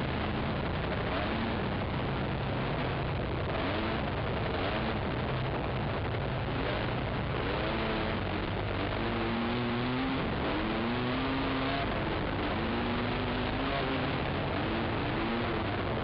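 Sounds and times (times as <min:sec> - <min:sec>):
quad engine revving: 0:00.0 - 0:16.0
steady rushing noise: 0:00.0 - 0:16.0.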